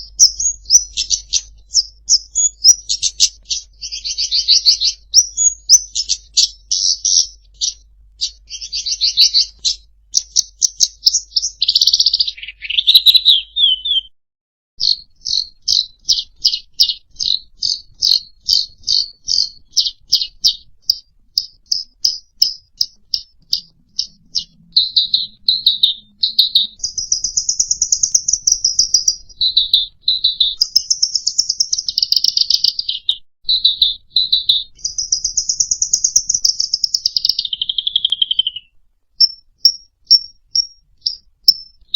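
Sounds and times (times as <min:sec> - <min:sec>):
songbird chirping and trilling: 0:00.0 - 0:14.2, 0:14.8 - 0:41.9.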